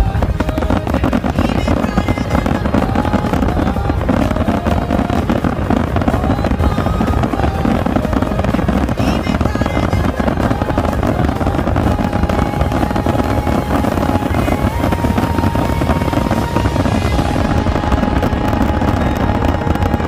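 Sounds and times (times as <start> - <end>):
fireworks booms and crackles: 0.0 - 20.0.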